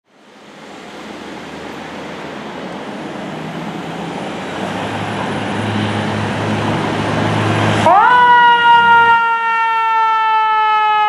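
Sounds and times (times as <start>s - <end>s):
fire engine diesel engine: 0.0s - 11.0s
road noise: 0.0s - 11.0s.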